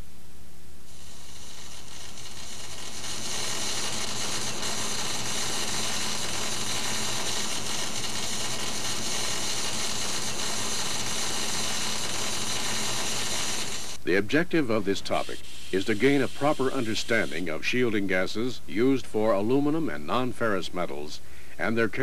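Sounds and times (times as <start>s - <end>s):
low electrical hum: 0.0s - 22.0s
loud hiss: 0.8s - 18.5s.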